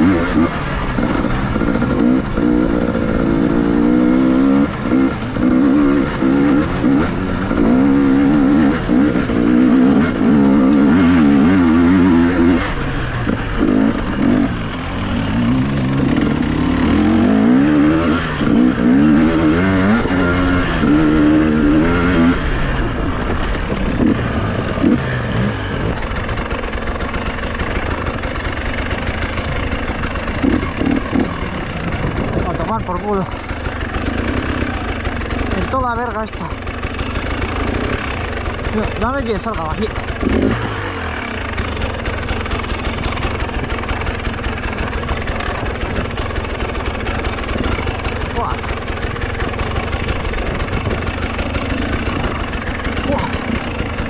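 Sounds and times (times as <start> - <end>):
two-stroke motorcycle engine revving: 0.0 - 54.0.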